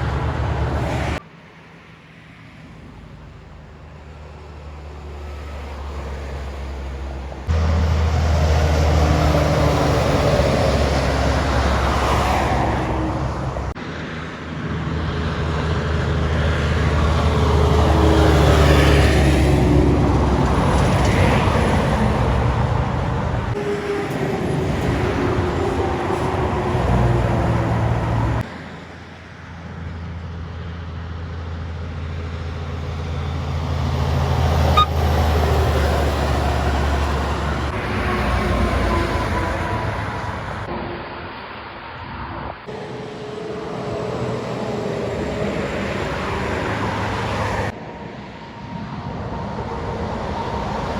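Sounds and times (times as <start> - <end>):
diesel truck engines: 0.0 - 50.9
tyre and road noise: 0.0 - 50.9.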